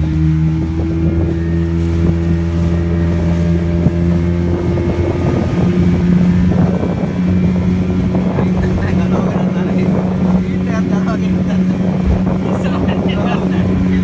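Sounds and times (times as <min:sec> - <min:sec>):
motorboat engine humming: 0:00.0 - 0:14.0
water splashing against hull: 0:00.0 - 0:14.0
wind buffeting microphone: 0:00.0 - 0:14.0.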